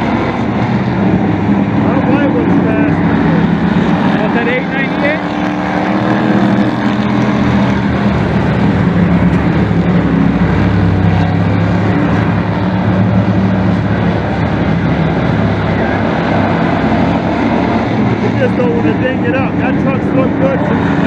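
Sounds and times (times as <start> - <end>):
race truck engines droning: 0.0 - 21.0.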